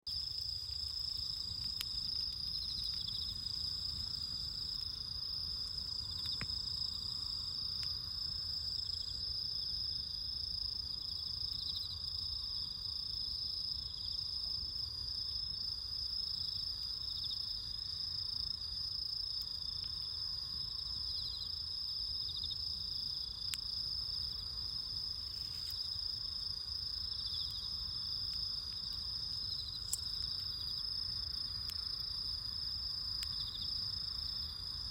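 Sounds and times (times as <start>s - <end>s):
bonfire crackling and popping: 0.1s - 34.9s
insects trilling: 0.1s - 34.9s.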